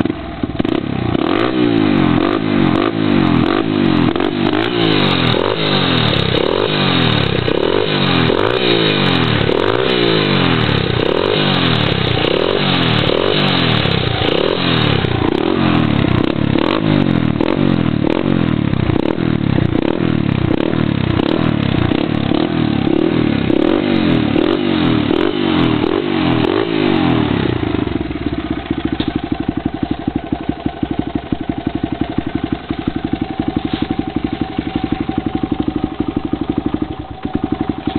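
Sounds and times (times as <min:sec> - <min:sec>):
motorcycle engine revving and idling: 0:00.0 - 0:37.9.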